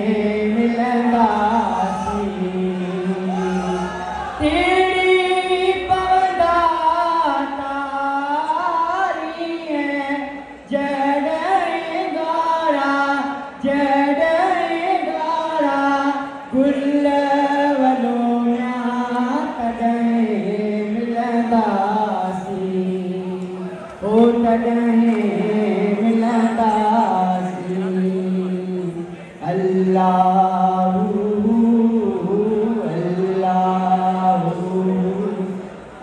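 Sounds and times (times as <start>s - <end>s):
man singing chant-like melody: 0.0s - 35.7s.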